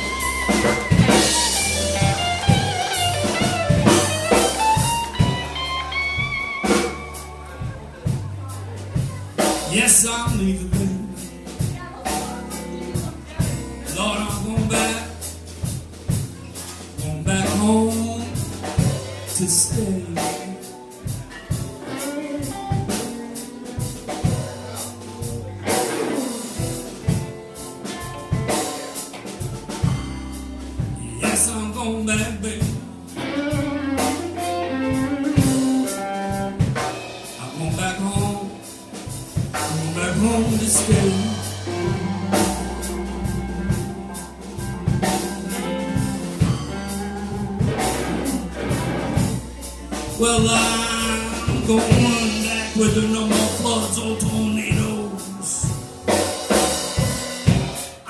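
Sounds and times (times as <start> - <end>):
electric guitar bent notes: 0.0 - 58.0
live blues band playing: 0.0 - 58.0
regular drum beats: 0.0 - 58.0.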